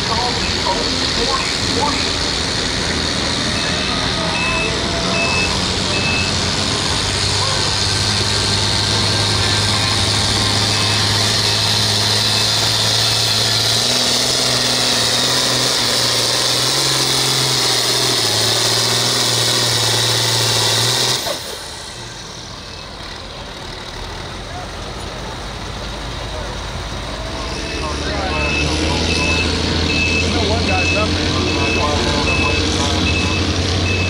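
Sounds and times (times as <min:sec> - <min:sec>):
tractor engine running under load: 0:00.0 - 0:34.0.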